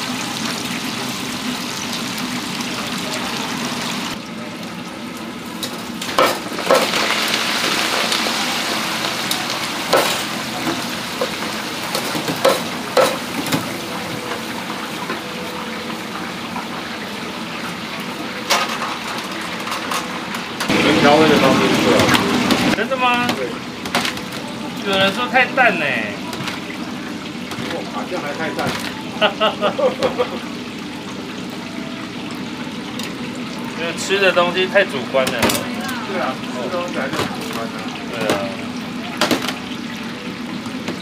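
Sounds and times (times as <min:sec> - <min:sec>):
hot oil sizzling: 0:00.0 - 0:41.0
metal clanks of fry baskets: 0:05.5 - 0:30.6, 0:32.1 - 0:41.0.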